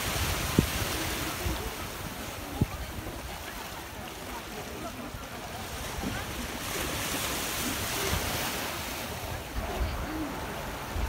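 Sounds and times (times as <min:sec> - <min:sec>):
wind on microphone: 0:00.0 - 0:04.1, 0:04.9 - 0:11.0
faint distant voices: 0:00.0 - 0:11.0
small waves on shingle: 0:00.0 - 0:11.0.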